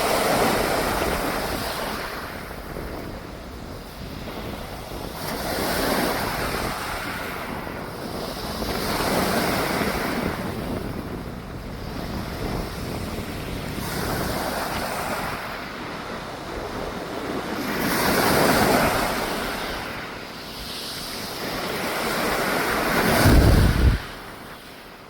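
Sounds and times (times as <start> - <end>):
sea waves washing: 0.0 - 25.0
wind on microphone: 0.0 - 25.0.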